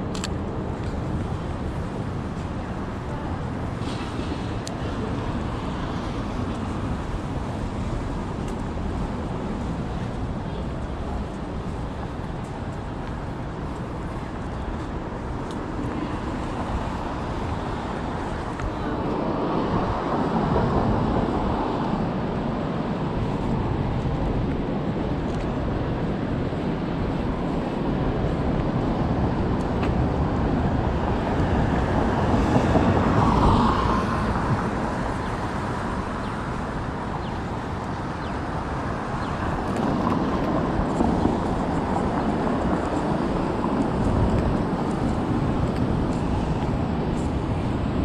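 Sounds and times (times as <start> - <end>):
rumble of cars: 0.0 - 48.0.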